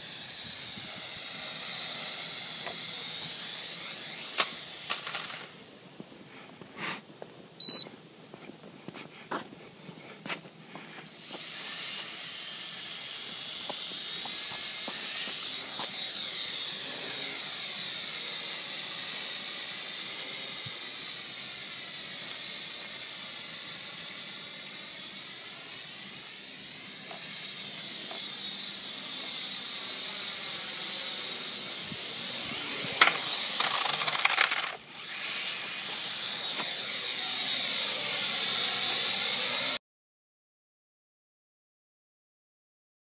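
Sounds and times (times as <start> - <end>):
quadcopter motors whining: 0.0 - 5.8, 9.4 - 39.8.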